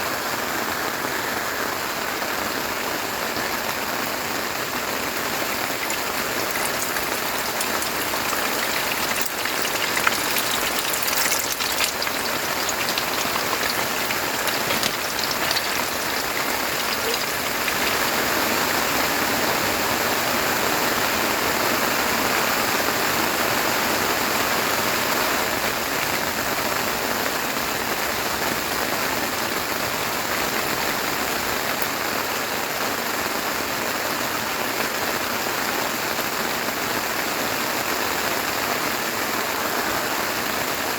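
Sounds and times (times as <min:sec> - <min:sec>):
heavy rain on a surface: 0:00.0 - 0:40.9.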